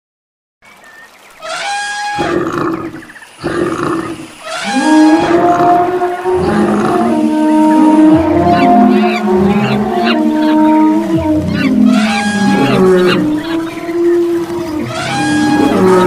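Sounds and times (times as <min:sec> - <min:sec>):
animals roaring and calling: 0:01.4 - 0:16.0
long pitched animal calls: 0:01.5 - 0:16.0.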